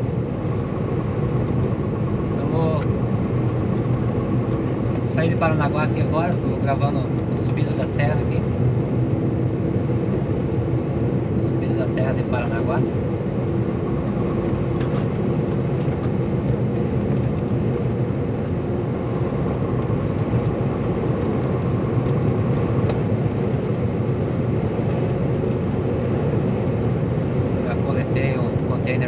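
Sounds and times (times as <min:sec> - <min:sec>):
truck engine drone: 0:00.0 - 0:29.0
tyres on highway: 0:00.0 - 0:29.0.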